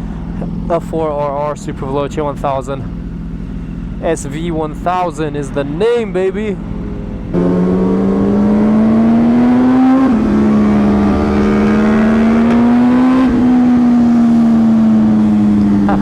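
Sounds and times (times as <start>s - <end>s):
motorcycle engine accelerating: 2.8s - 16.0s.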